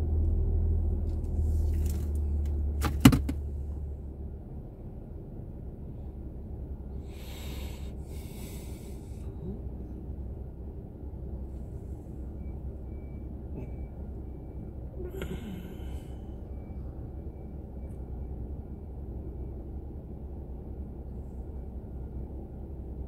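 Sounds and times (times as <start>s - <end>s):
car idling: 0.0s - 23.0s.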